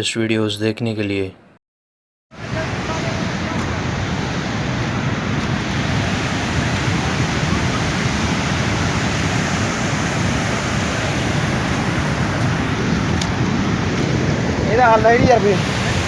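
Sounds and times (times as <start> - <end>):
river rushing in flood: 2.4 - 16.0.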